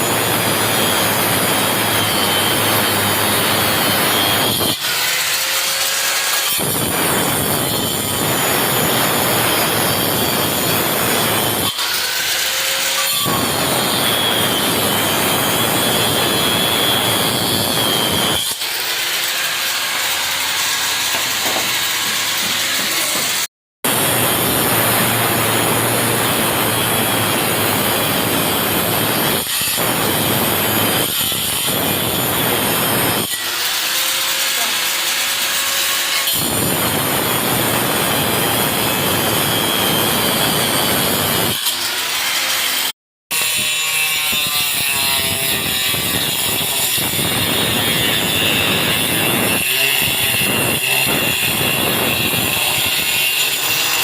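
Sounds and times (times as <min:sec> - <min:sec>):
angle grinder cutting wood: 0:00.0 - 0:54.0.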